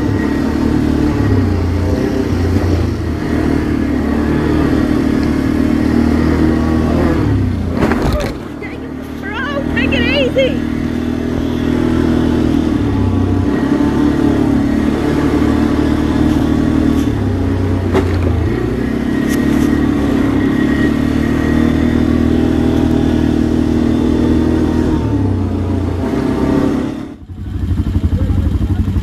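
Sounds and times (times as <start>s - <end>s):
quad bike engine revving: 0.0s - 29.0s.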